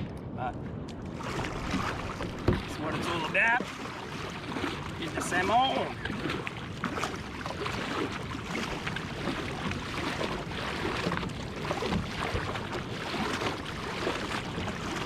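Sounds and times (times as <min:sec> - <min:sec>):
wind rumbling on microphone: 0:00.0 - 0:15.0
water splashing around kayak: 0:00.8 - 0:15.0.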